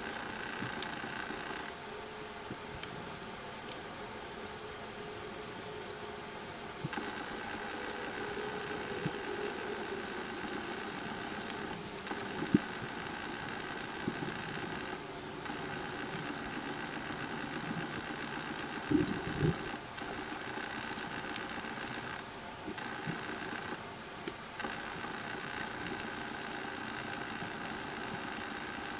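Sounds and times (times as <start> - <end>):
underwater motor hum: 0.0 - 28.9.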